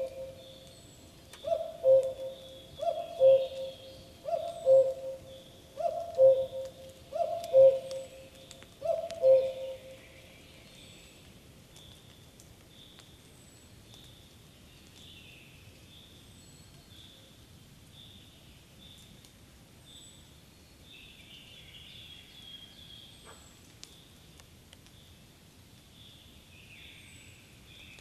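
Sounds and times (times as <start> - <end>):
soft background hiss: 0.0 - 28.0.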